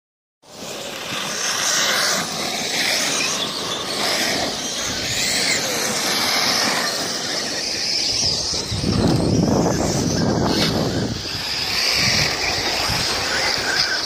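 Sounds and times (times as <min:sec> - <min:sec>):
electric motors whining: 0:00.5 - 0:14.0
tyres on dirt: 0:00.5 - 0:14.0.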